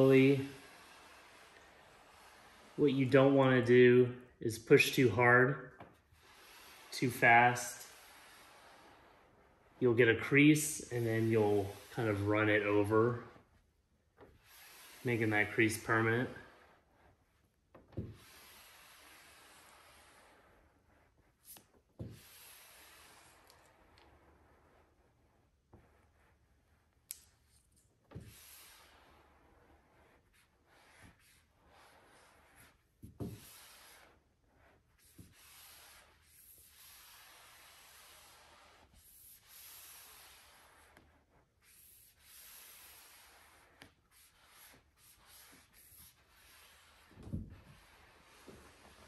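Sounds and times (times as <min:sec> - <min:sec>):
cloth swishing on vinyl: 0:00.0 - 0:03.8, 0:05.9 - 0:49.0.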